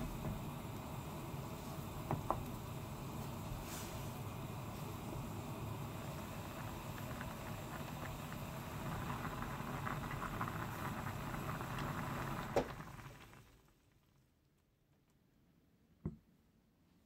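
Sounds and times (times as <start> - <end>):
food boiling and bubbling: 0.0 - 14.3.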